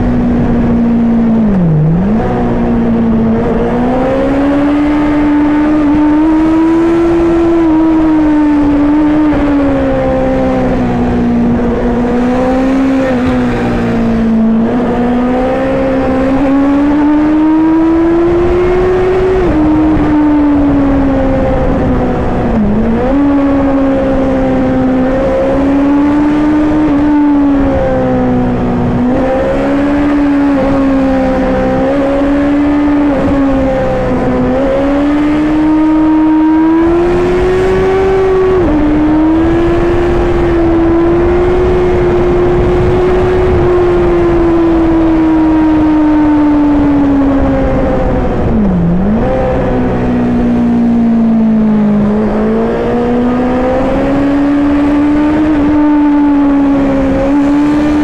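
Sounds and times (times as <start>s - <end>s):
wind rush: 0.0s - 58.0s.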